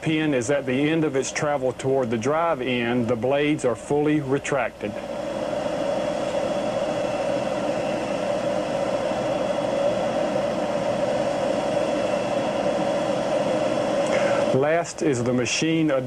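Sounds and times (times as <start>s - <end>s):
low hum: 0.0s - 14.8s
steady drone with hiss: 0.0s - 16.0s.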